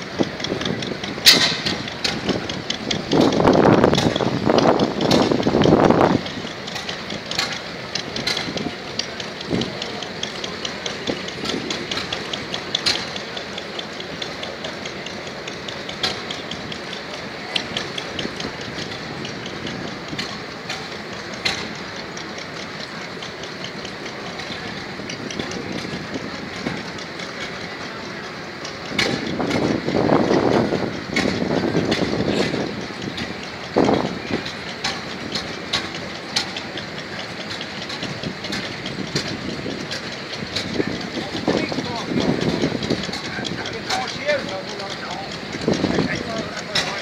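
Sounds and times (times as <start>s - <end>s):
stationary engine clattering: 0.0s - 47.0s.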